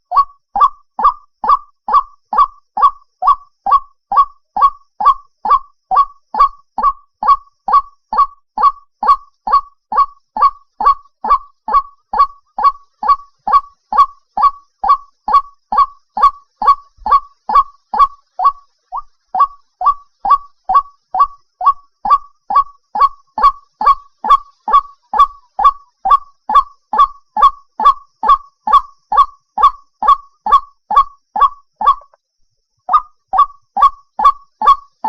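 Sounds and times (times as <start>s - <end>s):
waterhen calling: 0.0s - 32.2s, 32.9s - 35.0s.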